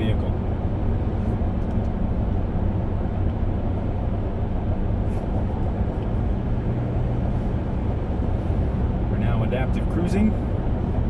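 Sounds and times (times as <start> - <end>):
road and drivetrain rumble in cab: 0.0 - 11.0.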